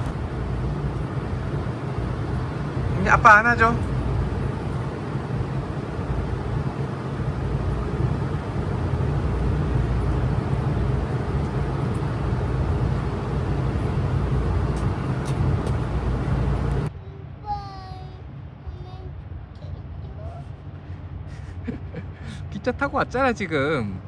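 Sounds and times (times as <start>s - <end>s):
continuous noise: 0.0s - 24.0s
vehicle engine humming: 0.0s - 24.0s.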